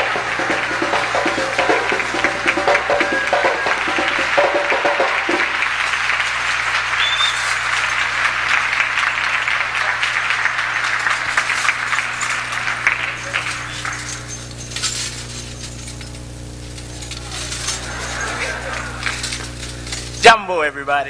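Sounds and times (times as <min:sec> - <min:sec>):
audience applauding: 0:00.0 - 0:20.4
low electrical hum: 0:00.0 - 0:21.0.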